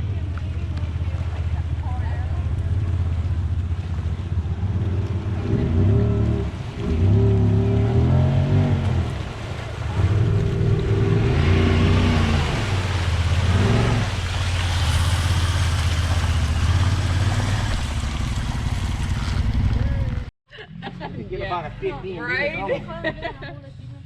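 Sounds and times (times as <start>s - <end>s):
tyres churning through mud: 0.0s - 20.3s
utility vehicle engine revving: 0.0s - 21.1s.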